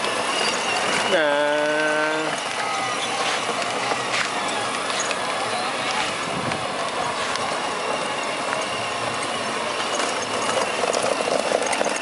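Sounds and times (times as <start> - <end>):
toy jeep motor whirring: 0.0 - 12.0.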